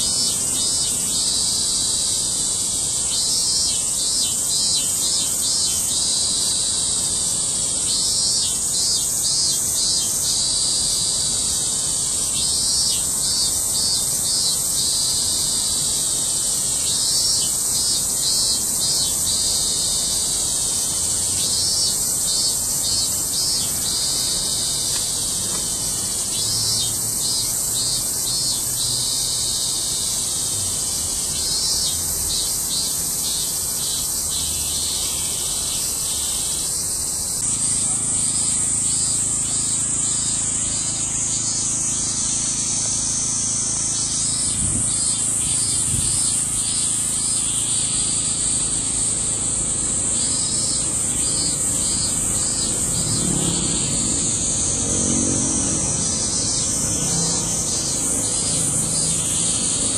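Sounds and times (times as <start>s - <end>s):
cicadas droning: 0.0s - 59.9s
pulsing cicada call: 0.0s - 59.9s.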